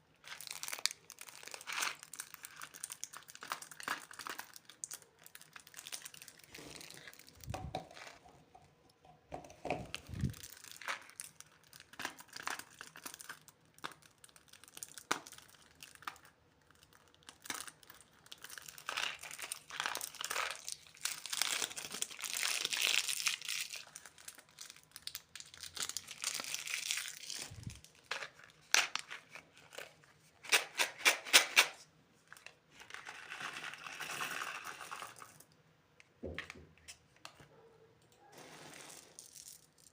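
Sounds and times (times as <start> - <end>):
plastic wrappers crinkling: 0.1 - 8.5, 9.8 - 35.4, 38.4 - 39.9.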